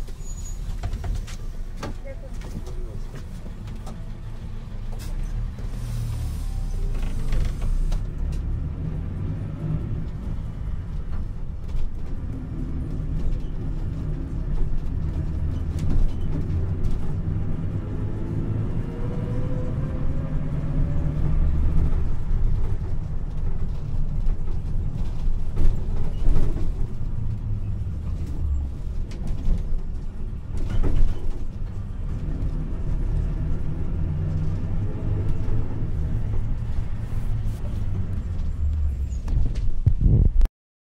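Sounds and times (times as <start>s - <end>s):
engine and road noise: 0.0s - 40.5s.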